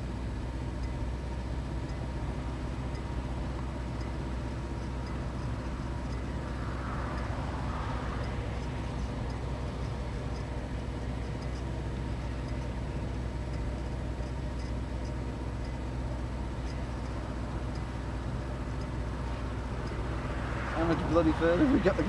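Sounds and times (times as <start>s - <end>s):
car engine and road rumble: 0.0s - 22.0s
faint ticks: 0.0s - 22.0s.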